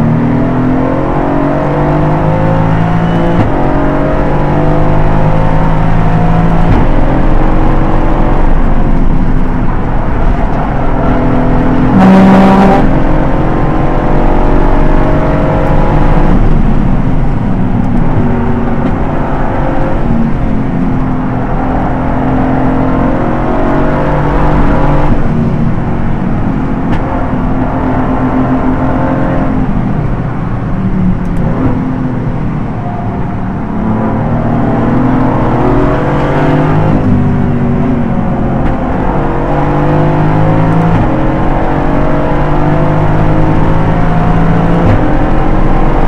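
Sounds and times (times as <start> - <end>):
race car engine at speed: 0.0 - 46.0.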